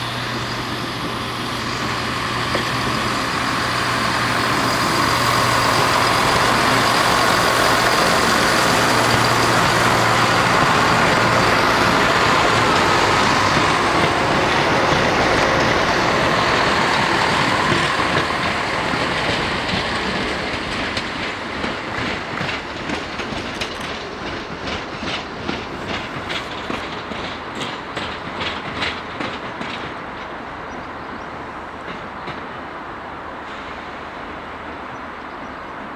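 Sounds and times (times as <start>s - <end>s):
train wheels clicking over rail joints: 0.0s - 35.3s
diesel train engines pulling away: 0.0s - 35.9s.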